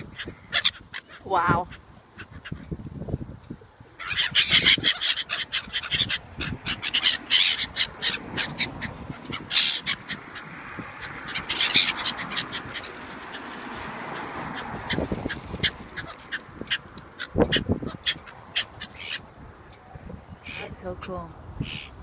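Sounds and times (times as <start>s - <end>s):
flock of gulls calling: 0.0s - 2.9s, 3.6s - 22.0s.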